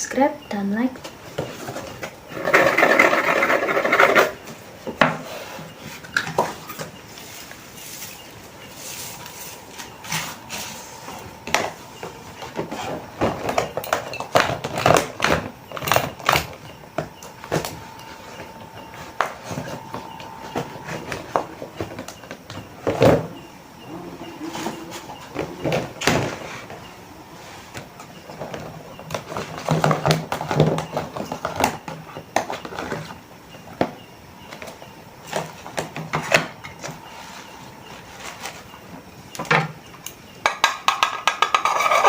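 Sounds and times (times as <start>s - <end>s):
faint steady tone: 0.0s - 41.0s.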